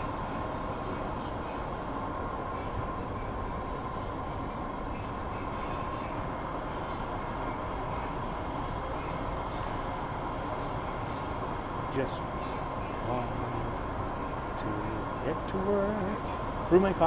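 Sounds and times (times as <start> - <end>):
subway car rumble: 0.0 - 17.0
thin steady hum: 0.0 - 17.0.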